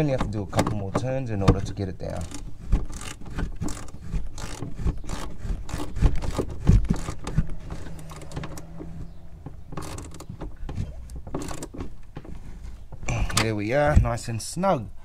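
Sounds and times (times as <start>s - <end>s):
tool scraping and knocking: 0.0s - 13.1s.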